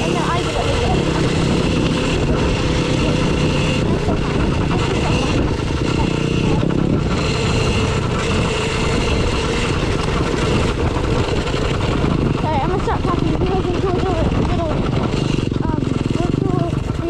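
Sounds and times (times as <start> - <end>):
dirt bike engine running: 0.0 - 17.0
wind noise on microphone: 0.0 - 17.0.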